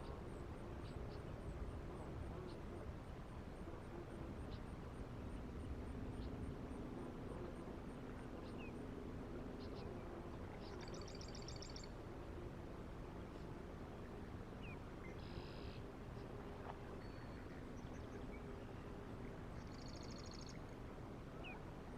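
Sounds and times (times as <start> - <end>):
low hum: 0.0 - 21.9.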